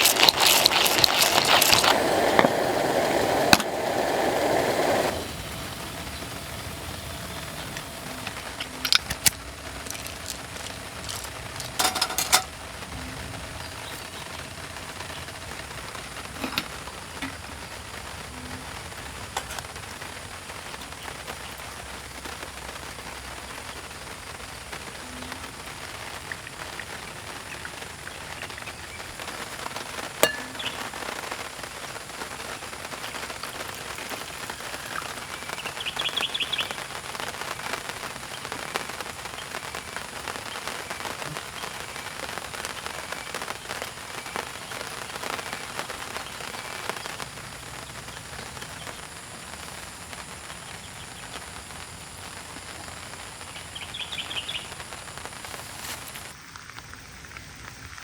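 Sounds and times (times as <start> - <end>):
crackles: 0.0 - 58.0
heavy rain falling: 0.0 - 58.0.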